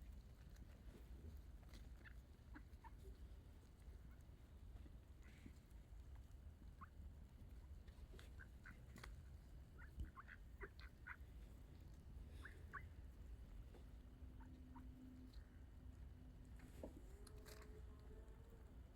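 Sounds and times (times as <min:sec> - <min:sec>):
low steady rumble: 0:00.0 - 0:18.9.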